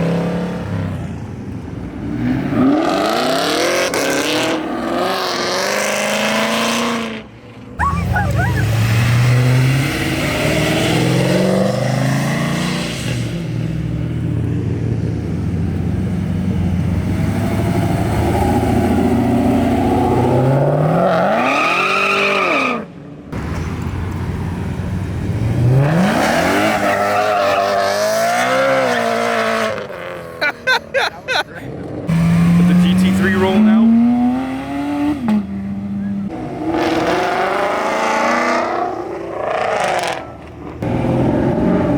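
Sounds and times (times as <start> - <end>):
cars accelerating: 0.0 - 41.9.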